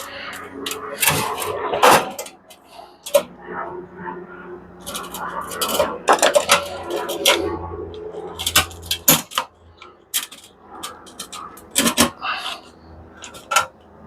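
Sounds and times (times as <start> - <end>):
metal tools clicking and clanking: 0.0 - 3.2, 4.8 - 7.5, 8.2 - 13.8.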